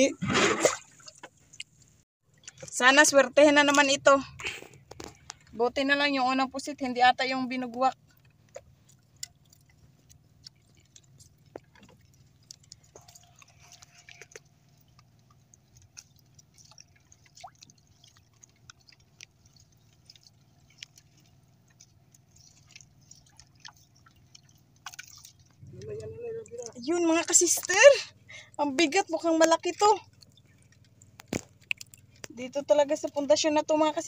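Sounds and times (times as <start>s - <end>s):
low steady hum: 0.0s - 34.0s
water lapping against boat hull: 0.0s - 34.0s.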